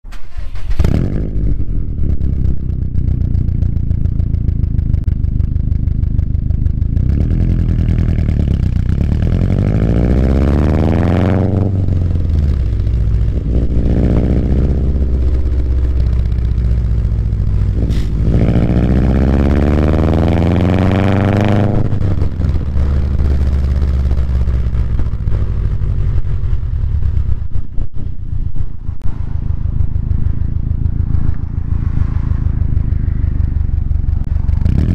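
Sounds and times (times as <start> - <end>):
car exhaust idling and revving: 0.7 - 34.9.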